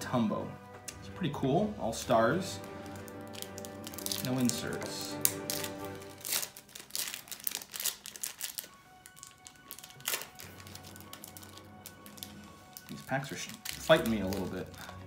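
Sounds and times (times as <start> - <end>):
quiet background music: 0.0 - 15.0
wrapper crinkling and tearing: 2.5 - 15.0.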